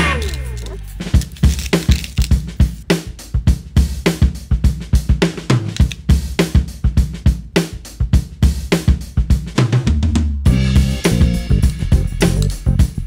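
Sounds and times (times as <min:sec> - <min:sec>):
music with drum-kit beat: 0:00.0 - 0:13.0.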